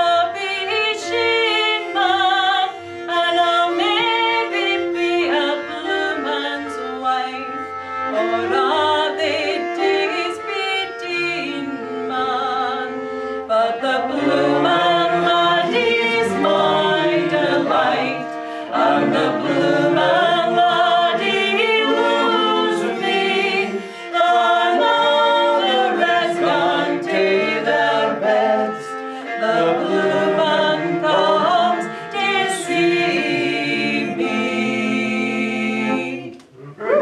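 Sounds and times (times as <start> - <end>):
fiddle: 0.0 - 37.0
women singing in harmony: 0.0 - 37.0.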